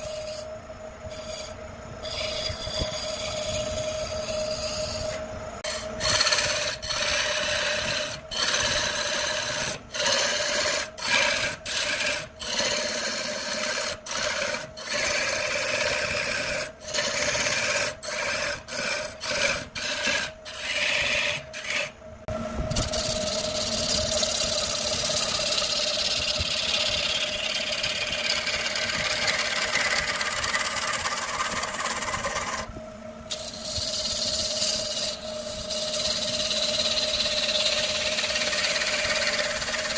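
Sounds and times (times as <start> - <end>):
lathe motor hum: 0.0 - 39.9
gouge cutting wood on lathe: 1.1 - 22.0, 22.8 - 32.7, 33.3 - 39.9.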